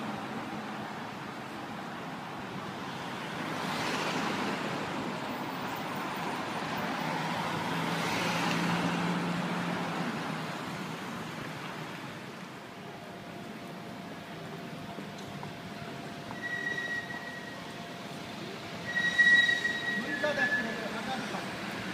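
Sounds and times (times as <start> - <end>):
road noise: 0.0 - 21.9
vehicles passing: 0.0 - 21.9.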